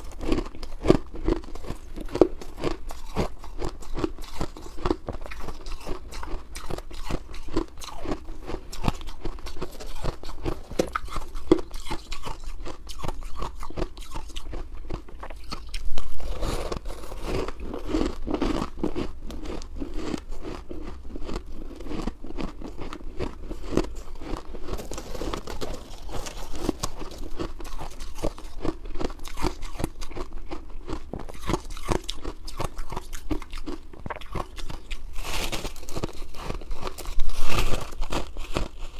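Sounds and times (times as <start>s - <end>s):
shaved ice being chewed: 0.0s - 38.9s.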